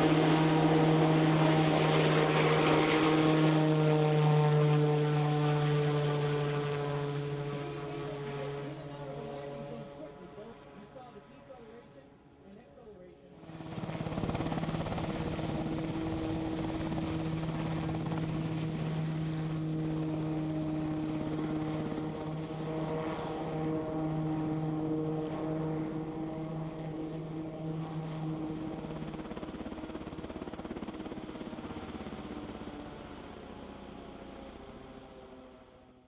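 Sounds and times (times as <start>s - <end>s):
helicopter rotor and engine: 0.0s - 36.0s.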